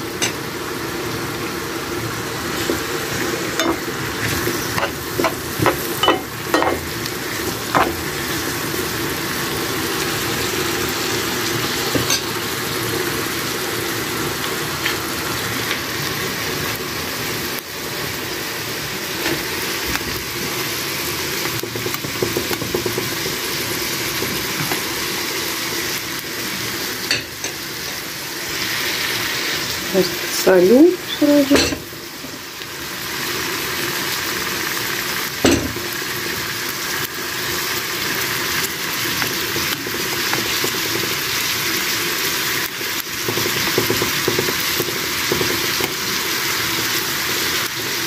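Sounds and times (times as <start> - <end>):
carrots sizzling in oil: 0.0 - 48.0.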